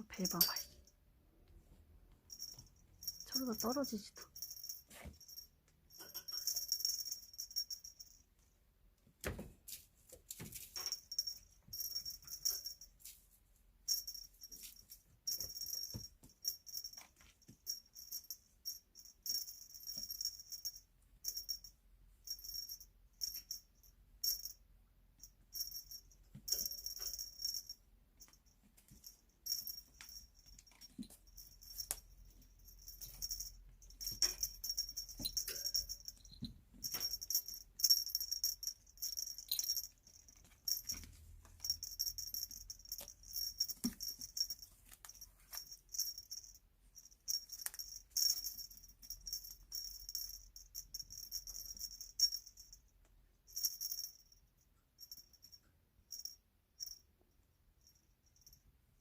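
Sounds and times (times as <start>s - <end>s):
small bell jingling: 0.0s - 1.0s, 2.3s - 8.3s, 9.8s - 59.0s.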